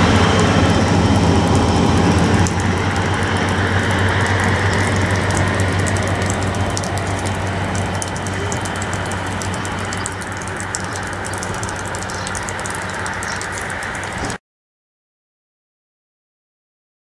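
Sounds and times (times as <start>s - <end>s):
crackling noise: 0.0s - 14.4s
diesel train engine hum: 0.0s - 14.4s.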